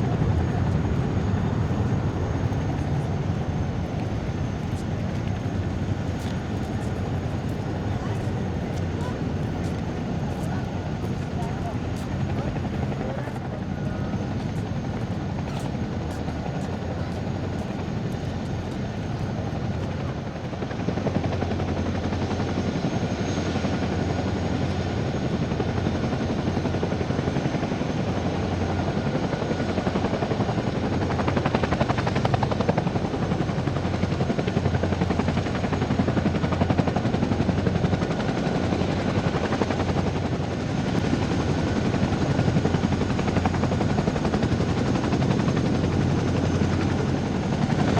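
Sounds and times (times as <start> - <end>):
helicopter rotor and engine: 0.0 - 47.9.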